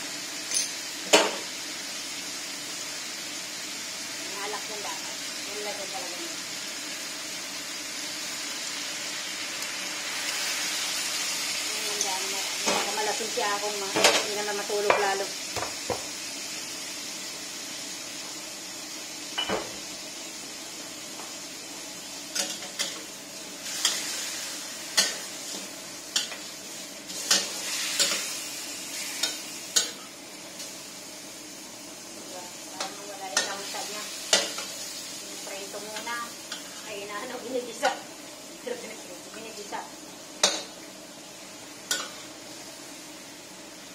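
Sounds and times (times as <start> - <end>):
fish sizzling in oil: 0.0 - 43.9.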